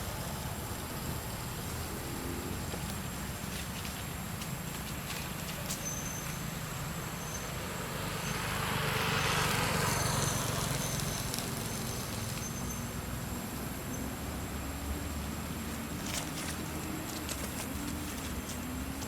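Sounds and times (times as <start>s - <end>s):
road vehicle passing by: 0.0s - 19.0s.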